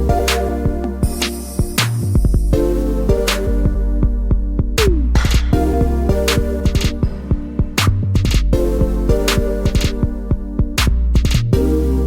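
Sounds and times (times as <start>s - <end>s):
sustained keyboard chords: 0.0s - 10.8s
steady bass: 0.0s - 12.0s
drum machine beat: 0.1s - 11.6s.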